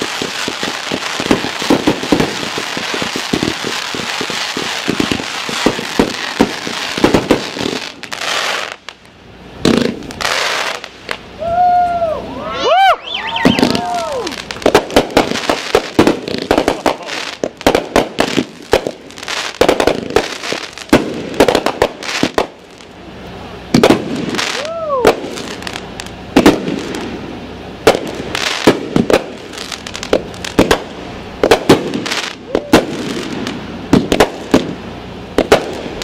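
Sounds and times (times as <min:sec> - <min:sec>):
firework whistle: 0:00.0 - 0:08.8, 0:09.7 - 0:17.4, 0:23.3 - 0:36.0
firework bangs and crackle: 0:00.0 - 0:36.0.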